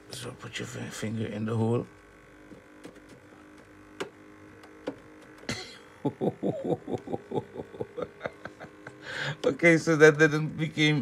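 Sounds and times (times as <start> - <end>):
laptop cooling fan hum: 0.0 - 11.0.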